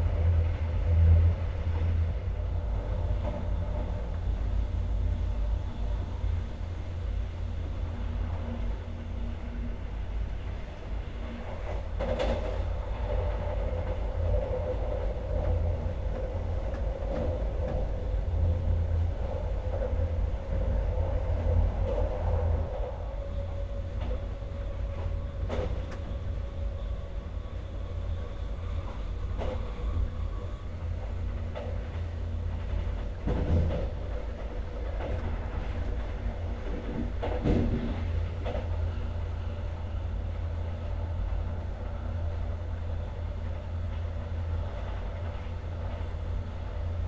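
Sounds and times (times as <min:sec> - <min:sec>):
constant humming tone: 0:00.0 - 0:47.0
train wheels rumbling on rails: 0:00.0 - 0:47.0.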